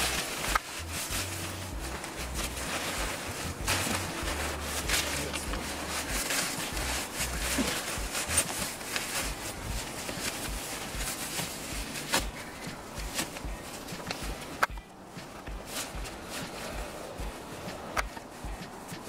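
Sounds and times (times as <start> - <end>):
tent fabric rustling in bag: 0.0 - 19.0.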